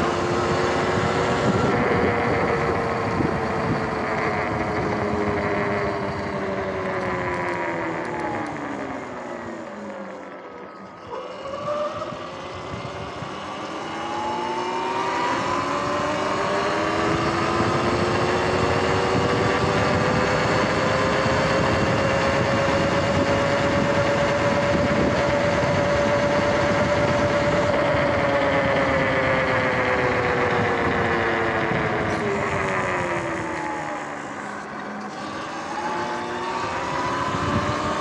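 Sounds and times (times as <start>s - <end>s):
electric motor whining: 0.0s - 38.0s
wind and tyre noise: 0.0s - 38.0s.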